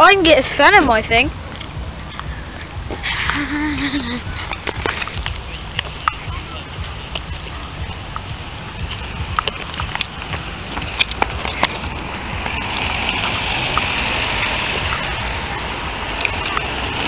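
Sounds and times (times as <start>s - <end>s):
van passing on road: 0.0s - 17.0s.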